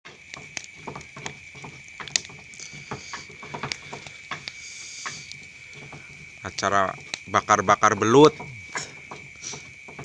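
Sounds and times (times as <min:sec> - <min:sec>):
fire crackling and popping: 0:00.0 - 0:10.0
hiss: 0:00.1 - 0:07.0, 0:08.4 - 0:10.0
steady high-pitched whine: 0:00.1 - 0:10.0.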